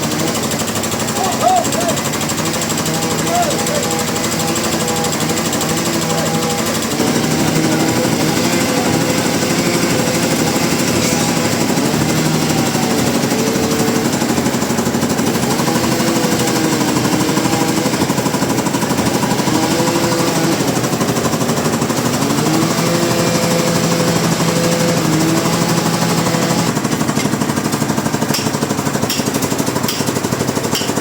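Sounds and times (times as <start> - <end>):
wavering machine whine: 0.0 - 27.0
sawmill machinery pulsing: 0.0 - 31.0.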